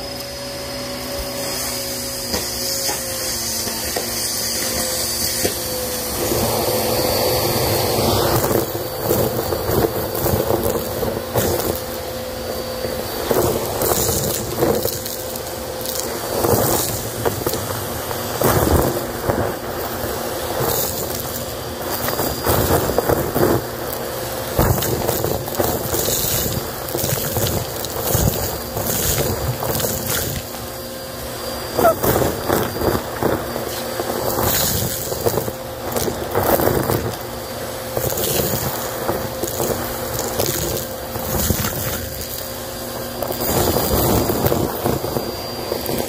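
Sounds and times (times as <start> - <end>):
debris rattling up a hose: 0.0 - 46.0
vacuum cleaner motor whine: 0.0 - 46.0.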